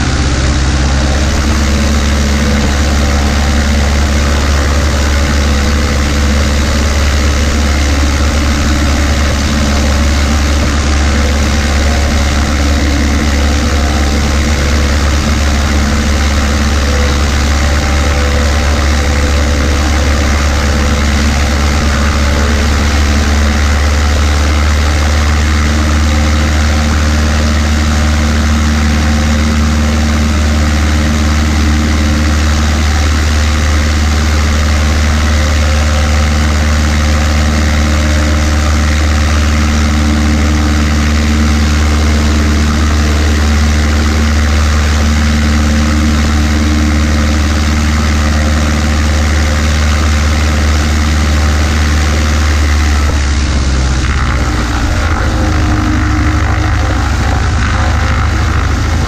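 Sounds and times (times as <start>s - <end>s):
plane engine and propeller idling: 0.0s - 59.0s.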